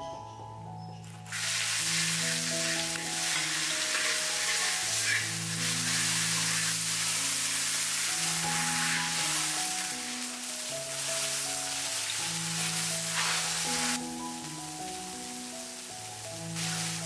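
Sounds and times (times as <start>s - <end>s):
background music sustained notes: 0.0s - 17.0s
food sizzling in hot oil: 1.2s - 17.0s.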